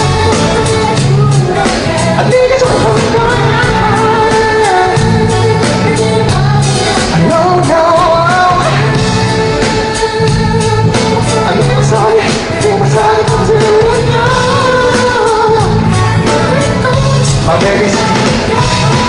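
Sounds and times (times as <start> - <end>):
live pop music with singing: 0.0 - 19.0.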